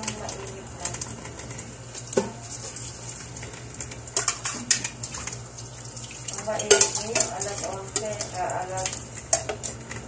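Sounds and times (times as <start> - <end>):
dishes clattering in a metal sink: 0.0 - 5.4, 6.2 - 10.0.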